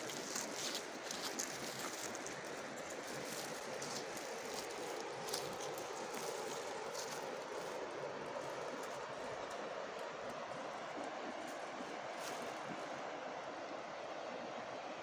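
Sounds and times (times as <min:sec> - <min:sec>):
river water running over stones: 0:00.0 - 0:15.0.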